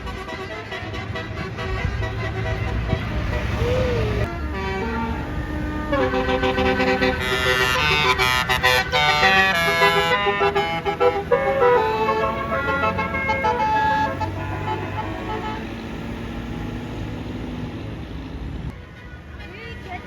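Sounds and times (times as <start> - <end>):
bus melody horn: 0.0 - 16.6
engine and traffic drone: 0.0 - 20.0.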